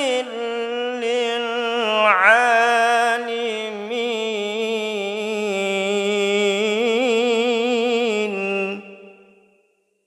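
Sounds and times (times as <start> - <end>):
man chanting melodically: 0.0 - 9.0.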